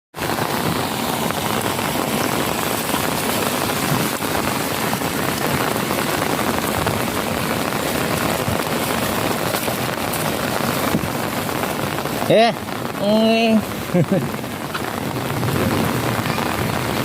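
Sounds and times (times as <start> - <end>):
heavy rain falling into water: 0.1 - 17.0.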